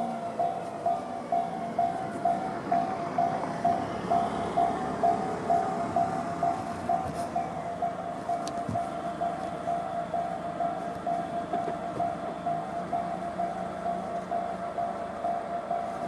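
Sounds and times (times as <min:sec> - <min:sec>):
level-crossing electronic bell: 0:00.0 - 0:16.0.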